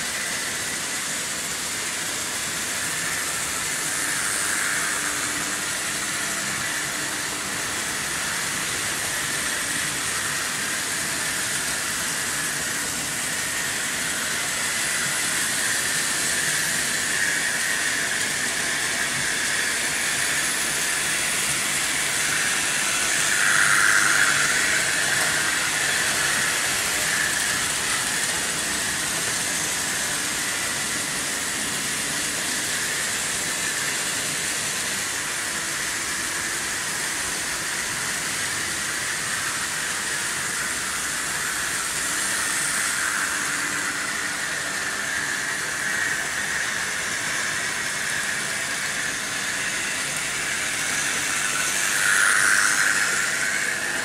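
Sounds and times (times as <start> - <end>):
model trains whirring on track: 0.0 - 54.0.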